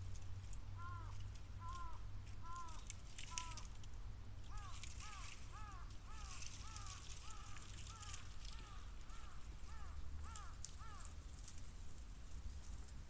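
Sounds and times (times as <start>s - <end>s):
bamboo crackling in bonfire: 0.0s - 13.0s.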